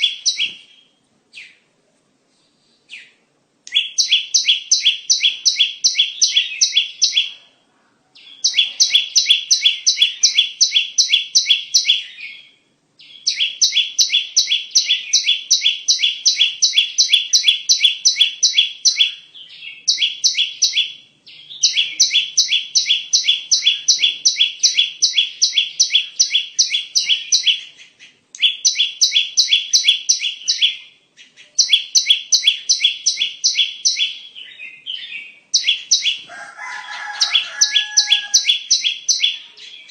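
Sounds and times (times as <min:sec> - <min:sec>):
bird chirping calls: 0:00.0 - 0:01.7, 0:02.4 - 0:07.6, 0:08.2 - 0:39.9.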